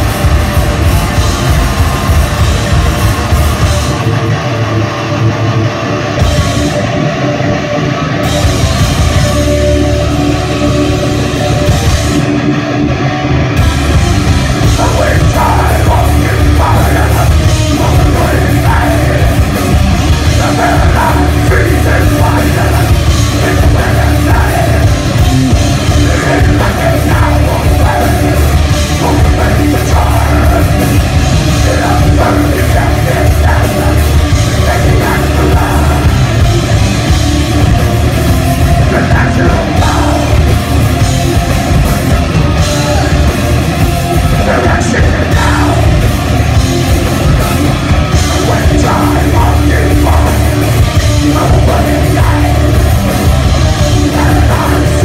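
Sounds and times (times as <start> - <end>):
drum kit pounding: 0.0 - 4.8, 6.2 - 7.0, 8.2 - 12.5, 13.6 - 55.0
bass guitar: 0.0 - 55.0
distorted electric guitar: 0.0 - 55.0.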